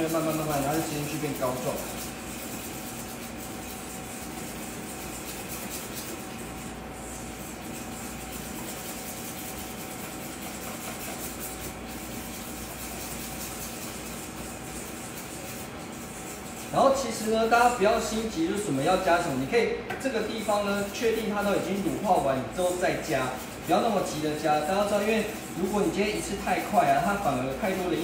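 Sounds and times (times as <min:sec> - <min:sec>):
background hum and hiss: 0:00.0 - 0:28.0.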